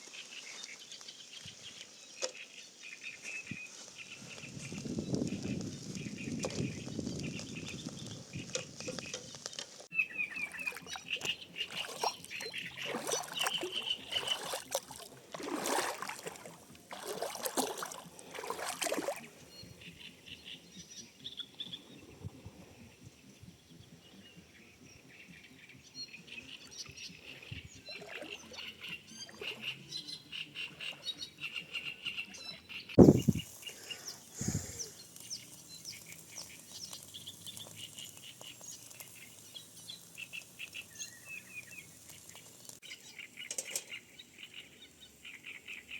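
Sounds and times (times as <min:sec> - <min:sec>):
small birds chirping and trilling: 0:00.0 - 0:45.9.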